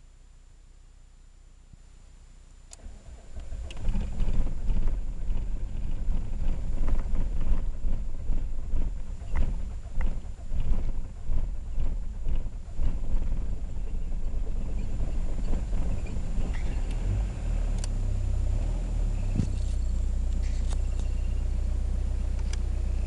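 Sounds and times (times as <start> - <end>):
car engine running: 2.6 - 23.0.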